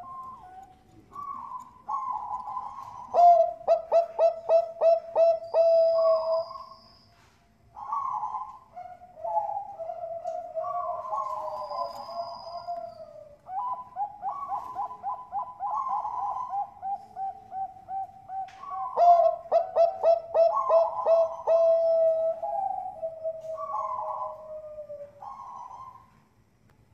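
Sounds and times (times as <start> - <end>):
dove cooing: 0.0 - 6.7, 7.8 - 26.2.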